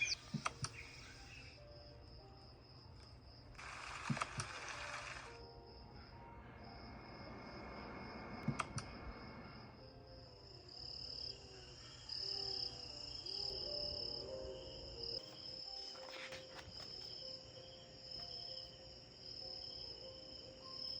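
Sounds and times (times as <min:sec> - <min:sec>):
crickets chirping: 0:00.0 - 0:04.0, 0:04.6 - 0:21.0
soft low music tones: 0:00.0 - 0:21.0.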